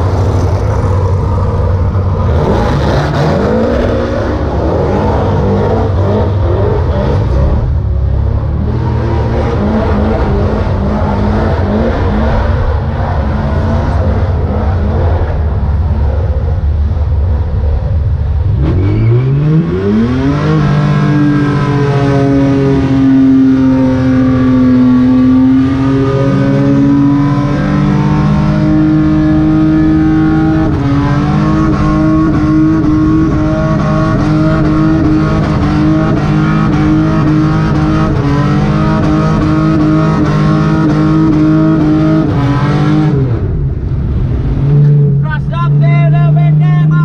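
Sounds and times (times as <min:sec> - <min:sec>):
car engine revving hard: 0:00.0 - 0:17.3, 0:18.4 - 0:47.0.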